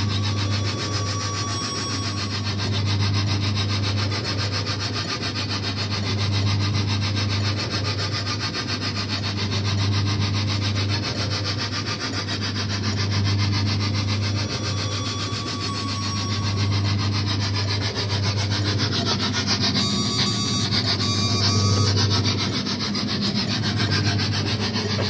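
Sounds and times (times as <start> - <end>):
motor hum: 0.0 - 25.0
rough mechanical rubbing: 1.9 - 25.0.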